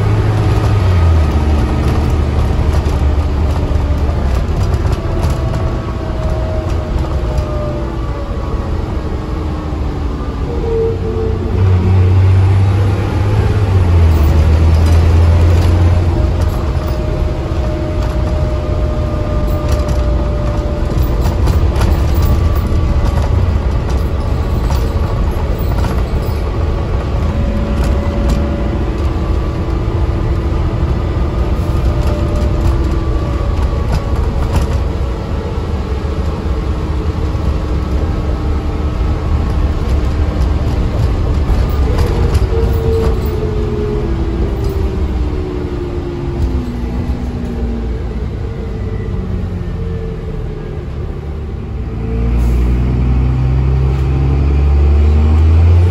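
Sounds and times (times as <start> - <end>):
bus engine drone: 0.0 - 55.9
road noise: 0.0 - 55.9.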